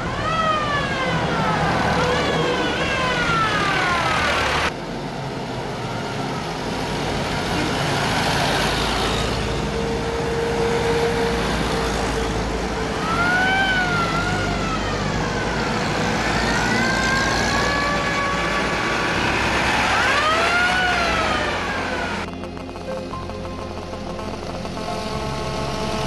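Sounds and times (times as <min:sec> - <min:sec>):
siren wailing: 0:00.0 - 0:04.7, 0:09.1 - 0:26.0.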